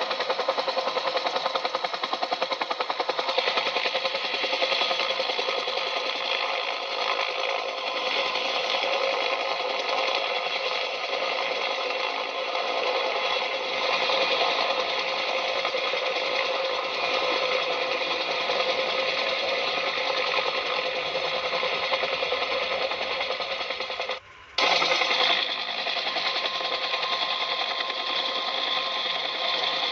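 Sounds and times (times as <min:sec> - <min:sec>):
toy motor rattling: 0:00.0 - 0:29.9.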